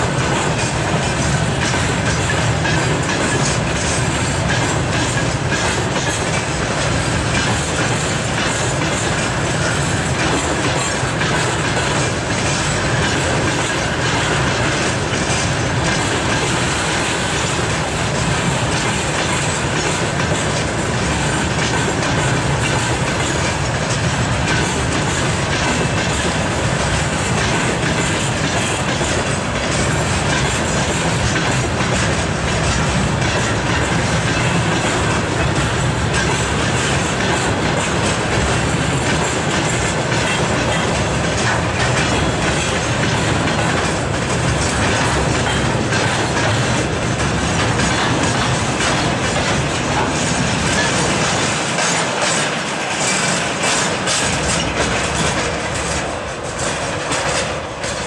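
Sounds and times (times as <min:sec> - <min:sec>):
train wheels rolling: 0:00.0 - 0:58.0
wheels clacking over rail joints: 0:00.0 - 0:58.0.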